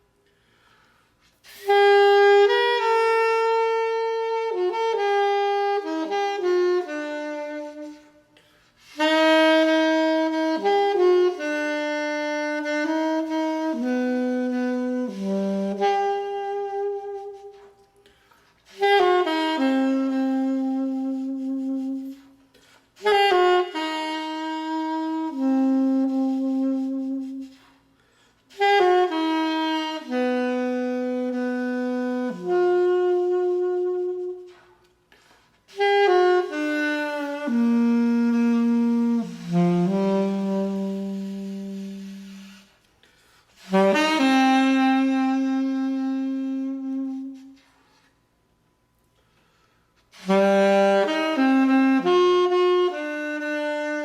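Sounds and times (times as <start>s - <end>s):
solo saxophone melody: 0.0s - 54.0s.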